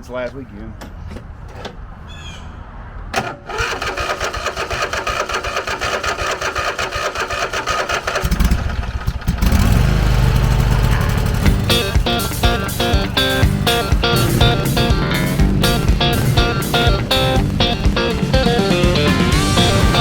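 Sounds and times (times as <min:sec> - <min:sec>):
starter cranking engine: 0:03.2 - 0:20.0
lawn mower engine running: 0:03.5 - 0:20.0.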